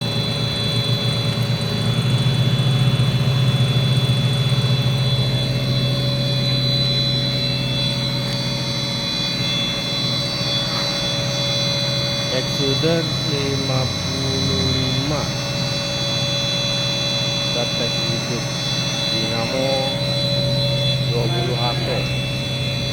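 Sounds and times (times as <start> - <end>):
extruder machine humming: 0.0 - 22.9
high machine whine: 0.0 - 22.9.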